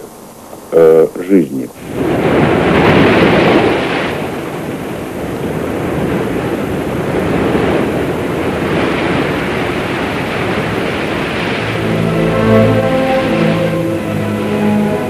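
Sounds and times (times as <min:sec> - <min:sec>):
sea waves breaking: 0:01.7 - 0:15.0.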